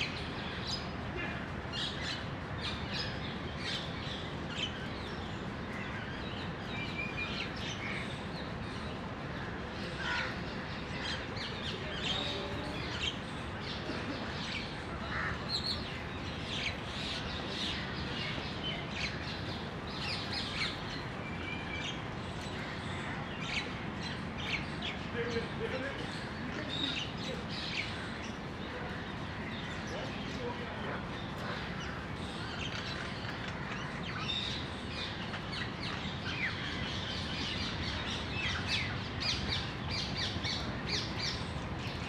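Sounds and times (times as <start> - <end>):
birds chirping and calling: 0.0 - 42.0
outdoor background noise: 0.0 - 42.0.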